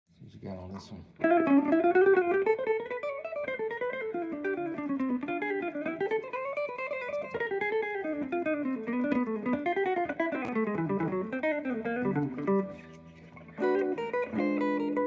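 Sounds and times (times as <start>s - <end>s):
acoustic guitar picking melody: 1.2s - 15.0s.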